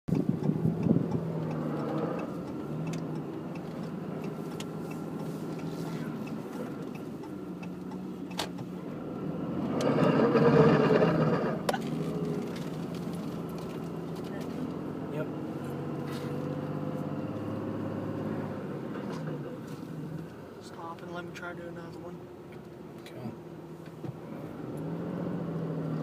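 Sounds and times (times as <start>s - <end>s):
truck drivetrain under load: 0.1s - 22.8s.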